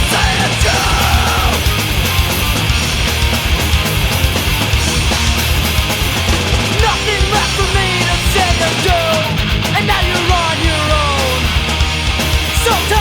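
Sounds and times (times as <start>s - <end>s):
punk rock band playing: 0.0s - 13.0s.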